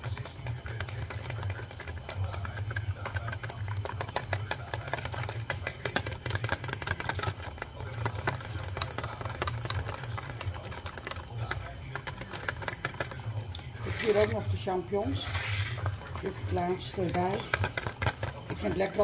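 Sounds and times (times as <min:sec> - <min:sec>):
whisk clicking against tub: 0:00.0 - 0:14.5, 0:15.2 - 0:19.0
steady low hum: 0:00.0 - 0:19.0.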